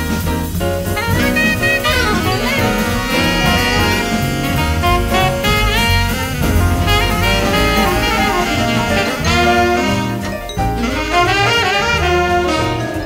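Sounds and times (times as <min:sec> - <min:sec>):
alto saxophone melodic runs: 0:00.0 - 0:13.0
bass: 0:00.0 - 0:13.0
drums and cymbals: 0:00.0 - 0:13.0.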